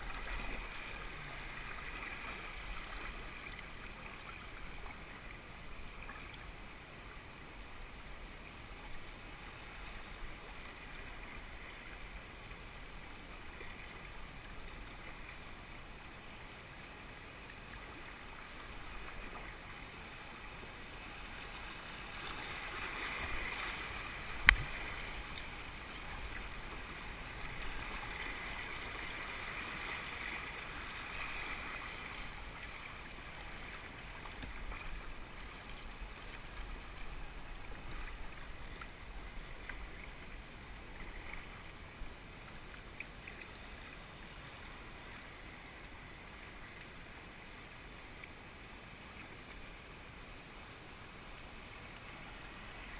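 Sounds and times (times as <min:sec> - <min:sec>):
river water rushing around kayak: 0:00.0 - 0:52.9.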